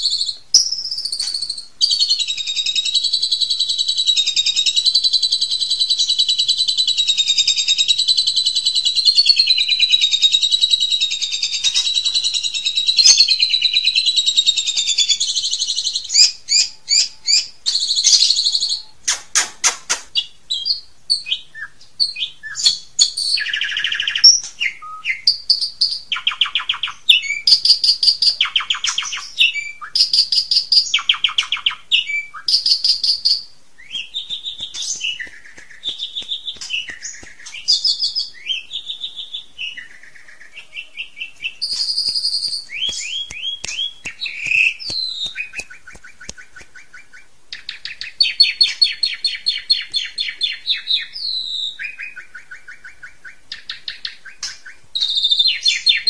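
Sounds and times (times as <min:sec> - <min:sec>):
starling singing: 0:00.0 - 0:19.0, 0:20.2 - 0:56.0.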